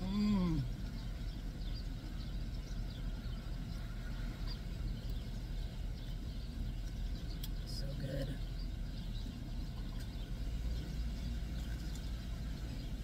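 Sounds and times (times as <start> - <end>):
birds chirping: 0.0 - 13.0
car engine idling: 0.0 - 13.0.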